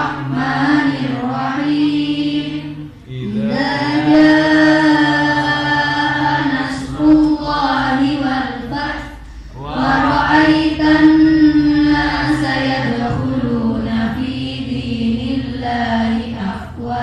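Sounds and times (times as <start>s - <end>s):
women chanting held notes: 0.0s - 17.0s.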